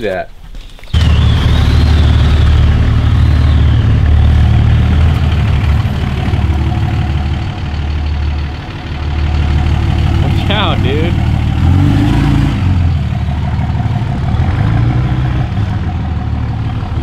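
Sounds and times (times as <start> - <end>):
diesel truck engine rumbling: 0.9 - 17.0.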